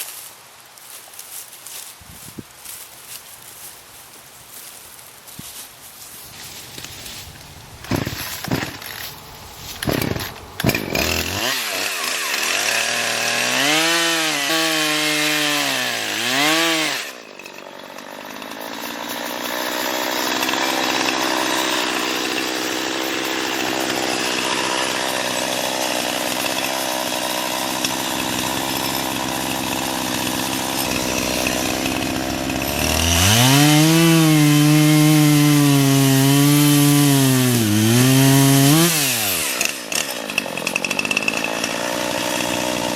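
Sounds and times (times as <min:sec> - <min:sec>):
chainsaw cutting wood: 0:06.5 - 0:42.9.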